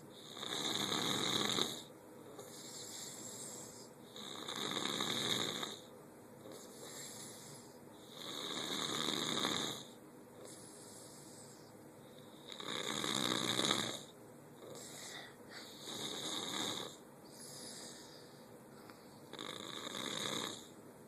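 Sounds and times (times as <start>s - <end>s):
quiet breathing: 0.0s - 20.8s
person snoring: 0.1s - 18.4s, 19.3s - 20.8s.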